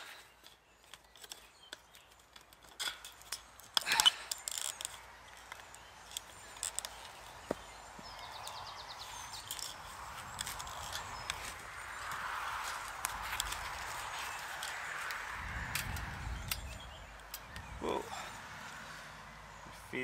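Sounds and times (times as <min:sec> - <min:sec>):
wire clicking and scraping: 0:00.0 - 0:17.7.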